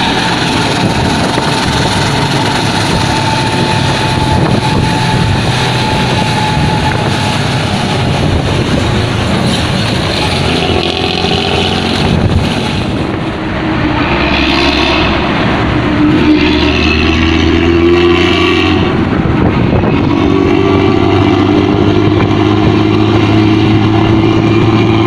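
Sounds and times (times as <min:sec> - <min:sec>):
diesel bus engine rumbling: 0:00.0 - 0:25.0.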